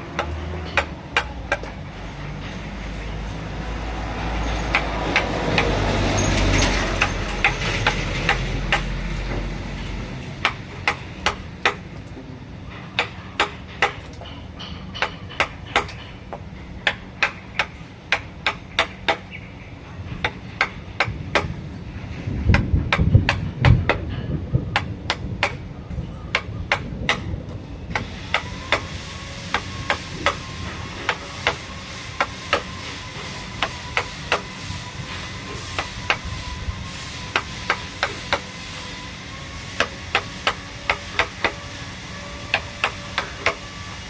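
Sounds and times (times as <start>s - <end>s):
low rumbling noise: 0.0s - 44.0s.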